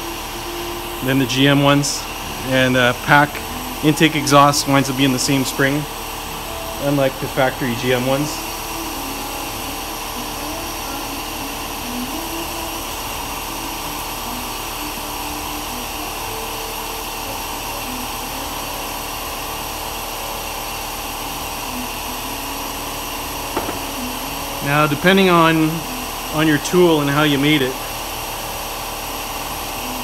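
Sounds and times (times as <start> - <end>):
steady mechanical drone: 0.0 - 30.0.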